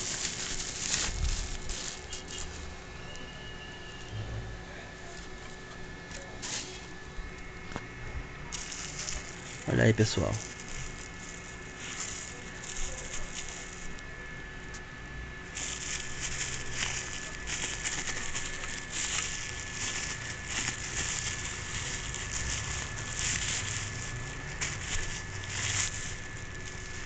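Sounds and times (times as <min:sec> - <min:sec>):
plastic wrapping crinkling: 0:00.0 - 0:04.1, 0:05.0 - 0:27.0.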